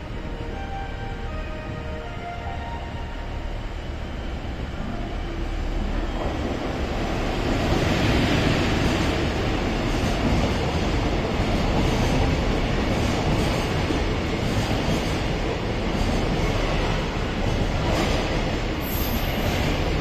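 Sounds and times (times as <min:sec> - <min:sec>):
freight train passing: 0:00.0 - 0:20.0.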